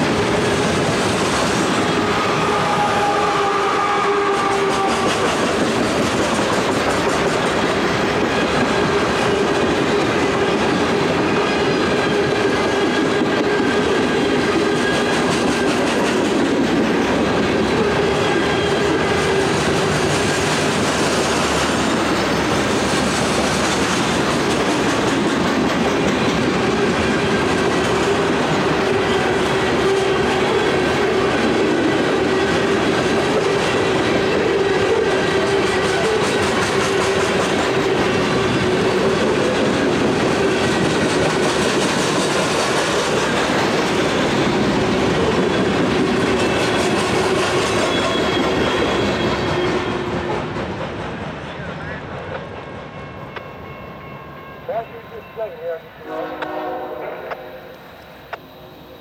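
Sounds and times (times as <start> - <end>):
freight train cars rolling past: 0.0 - 59.0.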